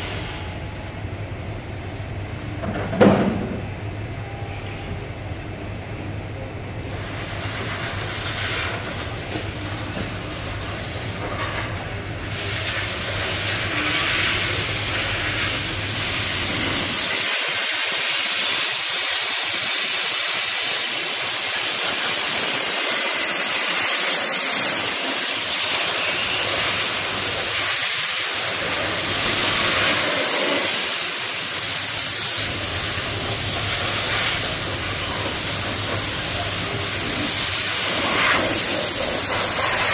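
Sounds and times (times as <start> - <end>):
compressed air hissing: 6.9 - 39.9.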